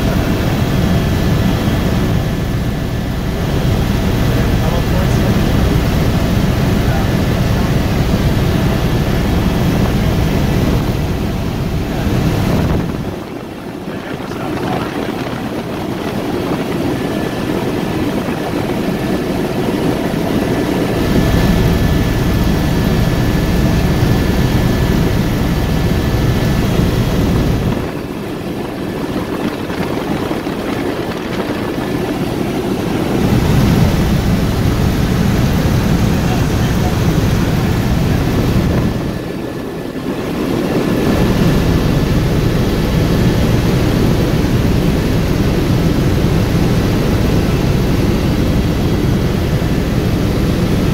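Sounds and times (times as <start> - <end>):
helicopter rotor and turbine: 0.0 - 50.9.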